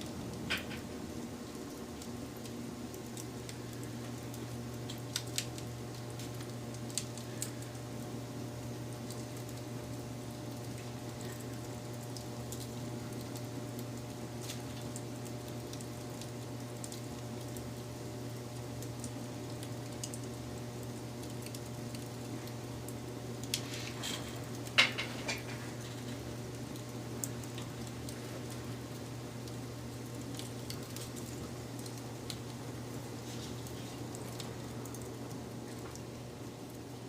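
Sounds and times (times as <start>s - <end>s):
fire popping: 0.0s - 37.0s
wood fire crackling: 0.0s - 37.0s.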